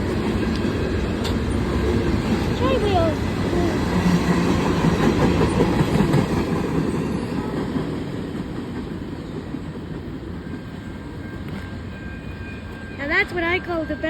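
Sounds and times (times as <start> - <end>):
train wheels clacking on track: 0.0 - 14.0.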